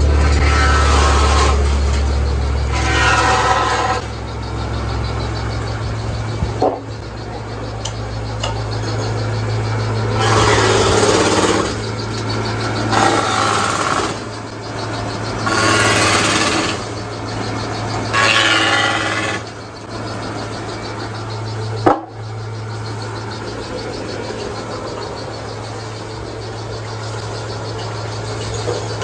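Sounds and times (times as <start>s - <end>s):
loud bursts of machine noise: 0.0s - 29.0s
sawmill machinery humming: 0.0s - 29.0s.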